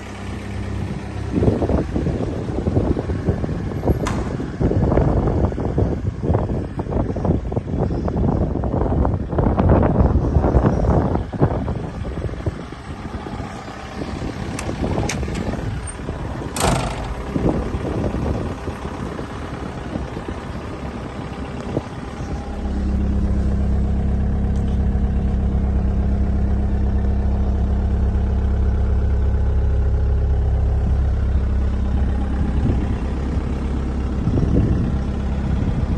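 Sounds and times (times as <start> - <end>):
diesel excavator engine running: 0.0 - 35.9.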